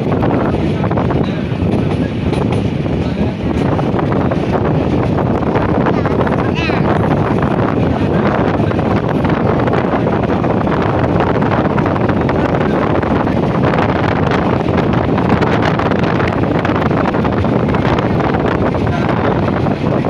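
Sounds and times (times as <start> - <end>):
moving train: 0.0 - 20.0
wind buffeting microphone: 0.0 - 20.0.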